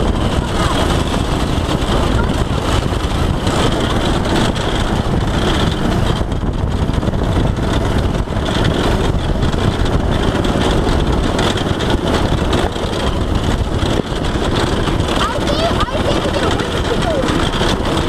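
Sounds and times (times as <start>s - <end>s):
go-kart engine running: 0.0s - 18.0s
rattles and knocks: 0.0s - 18.0s.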